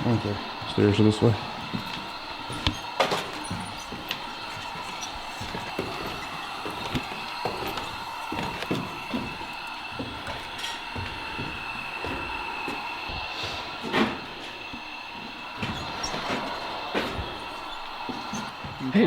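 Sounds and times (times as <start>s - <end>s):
footsteps on wooden stairs: 0.0s - 19.0s
steady high hum: 0.0s - 19.0s.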